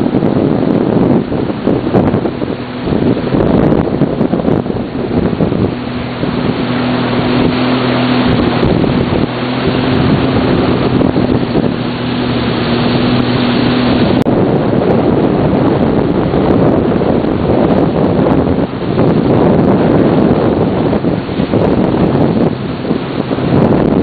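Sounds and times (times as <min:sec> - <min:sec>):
personal watercraft engine running: 0:00.0 - 0:24.0
water rushing: 0:00.0 - 0:24.0
wind noise on microphone: 0:00.0 - 0:24.0.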